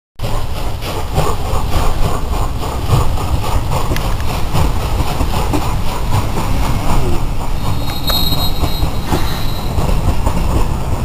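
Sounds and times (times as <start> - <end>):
steam locomotive chuffing: 0.2 - 11.0
train rumble: 0.2 - 11.0
wind buffeting microphone: 0.6 - 11.0.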